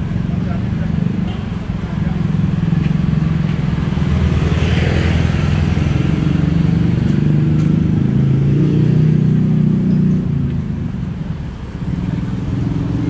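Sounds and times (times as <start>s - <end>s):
motorbike engines in traffic: 0.0s - 13.0s.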